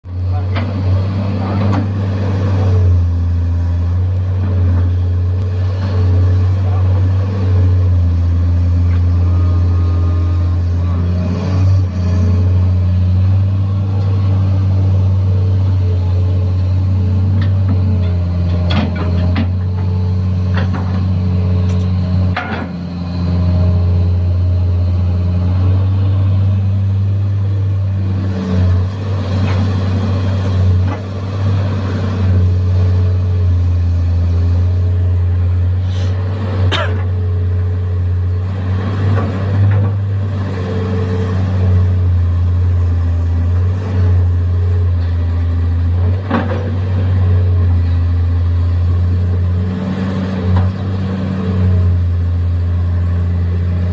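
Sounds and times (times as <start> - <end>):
excavator diesel engine humming: 0.0 - 53.9.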